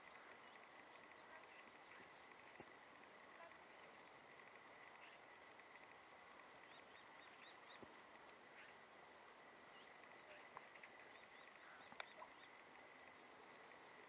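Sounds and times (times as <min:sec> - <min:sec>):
faint chirping bird calls: 0:00.0 - 0:14.0.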